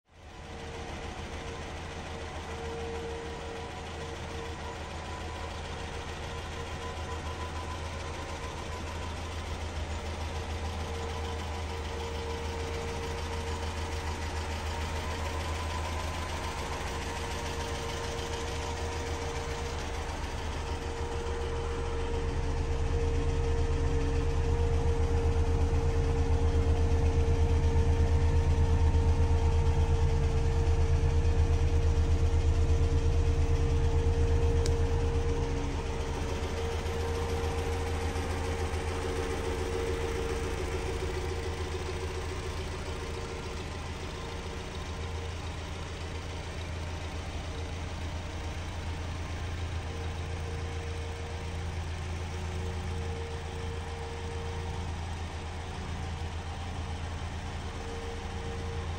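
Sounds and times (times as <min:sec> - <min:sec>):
car engine idling: 0:00.1 - 0:58.9.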